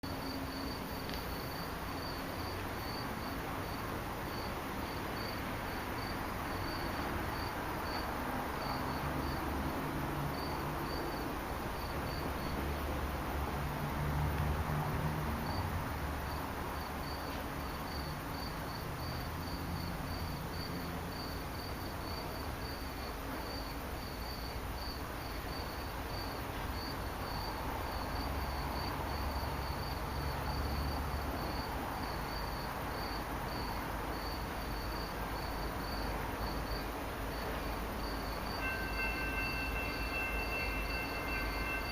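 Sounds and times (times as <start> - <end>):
crickets chirping: 0.1 - 41.9.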